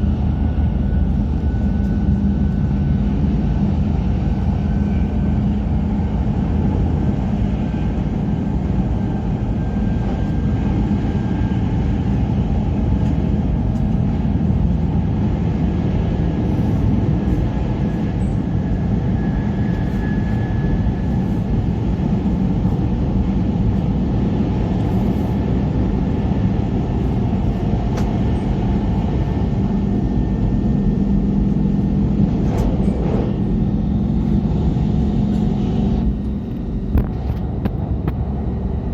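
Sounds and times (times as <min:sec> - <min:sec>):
train rumbling at speed: 0:00.0 - 0:38.9.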